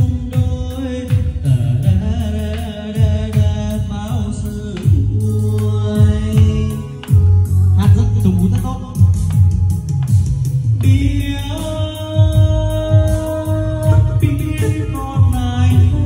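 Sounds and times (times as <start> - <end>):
deep bass drum beat: 0.0 - 16.0
song with singing: 0.0 - 16.0.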